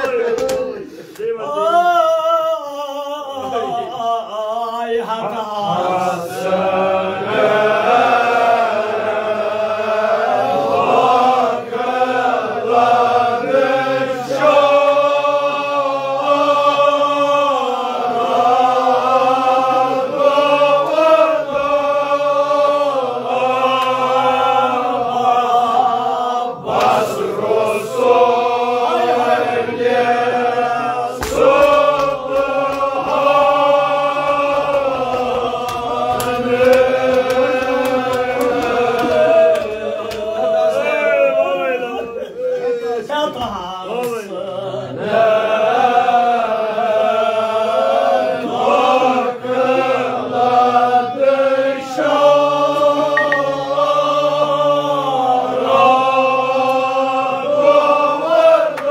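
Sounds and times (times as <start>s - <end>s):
men chanting a lament: 0.0s - 58.9s.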